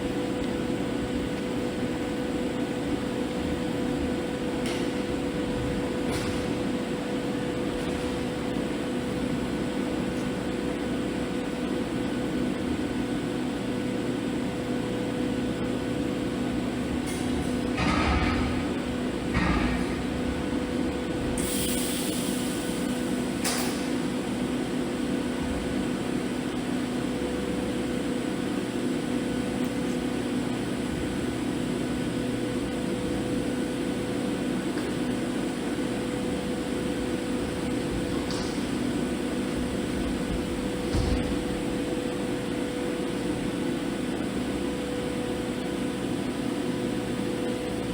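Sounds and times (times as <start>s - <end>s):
welding equipment hum and hiss: 0.0s - 47.9s.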